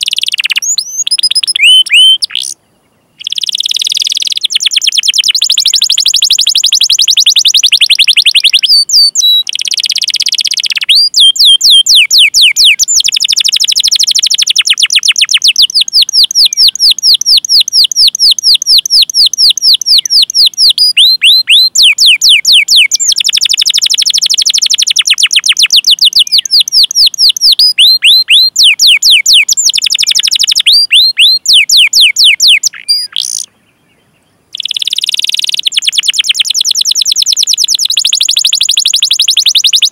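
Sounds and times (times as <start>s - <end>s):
canary singing: 0.0s - 2.6s, 3.2s - 39.9s.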